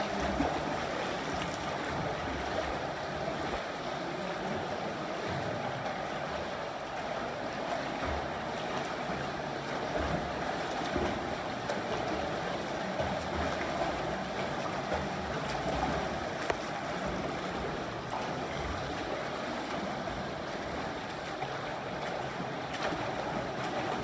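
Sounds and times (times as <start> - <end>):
swimmers splashing water: 0.0 - 24.0.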